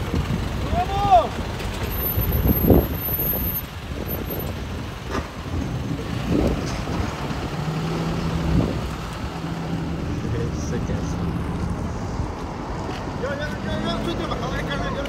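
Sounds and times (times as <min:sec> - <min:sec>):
truck engine driving past: 0:00.1 - 0:14.4.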